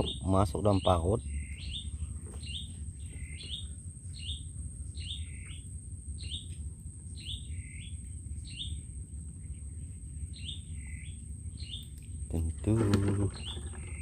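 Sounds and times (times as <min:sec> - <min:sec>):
bird chirping: 0:00.0 - 0:14.0
steady low rumble: 0:00.0 - 0:14.0.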